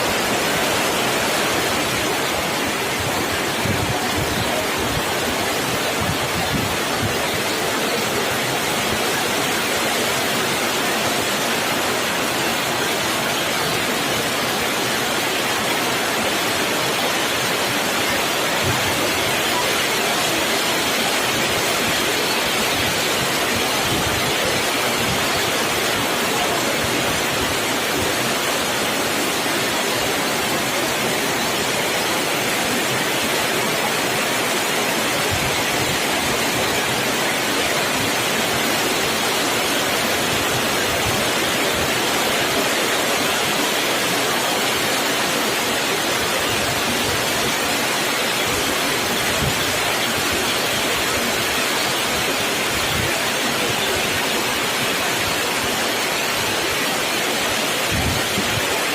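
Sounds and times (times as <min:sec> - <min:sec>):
steady rushing noise: 0:00.0 - 0:58.9.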